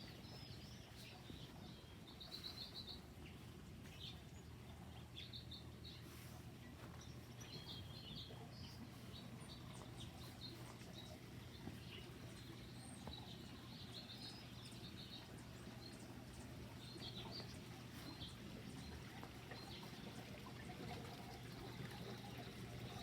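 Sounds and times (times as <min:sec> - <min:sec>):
low steady hum: 0:00.0 - 0:23.0
small birds chirping: 0:00.0 - 0:23.0.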